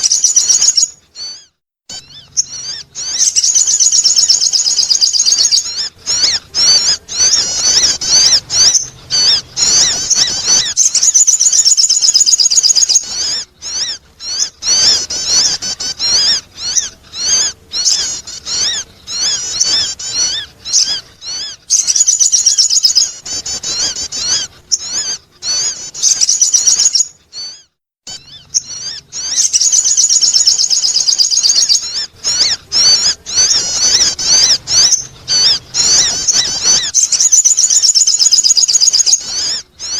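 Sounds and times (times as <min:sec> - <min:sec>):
bird chirping and warbling trills: 0:00.0 - 0:39.9.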